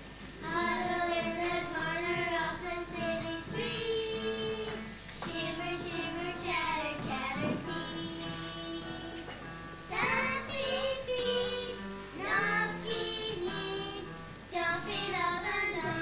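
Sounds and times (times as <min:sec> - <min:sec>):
children singing: 0:00.4 - 0:16.0.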